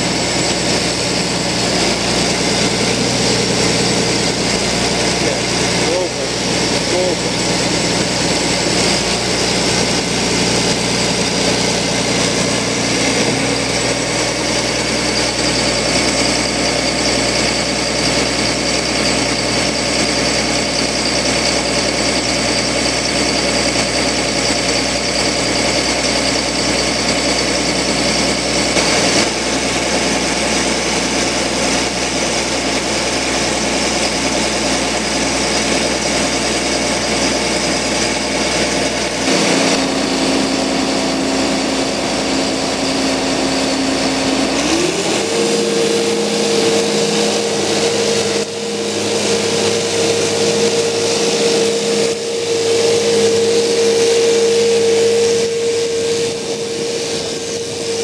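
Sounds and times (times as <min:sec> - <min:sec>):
diesel engine running steadily: 0:00.0 - 0:58.0.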